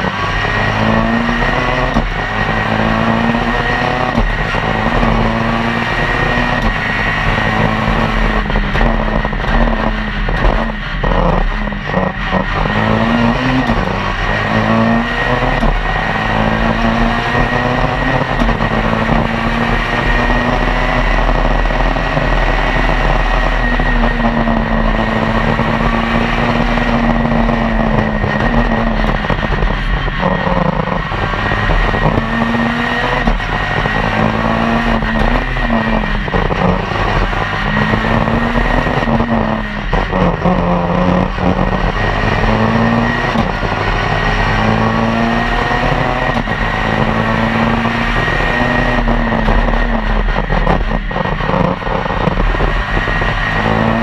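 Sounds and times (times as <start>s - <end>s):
rally car engine at hard throttle: 0.0s - 54.0s.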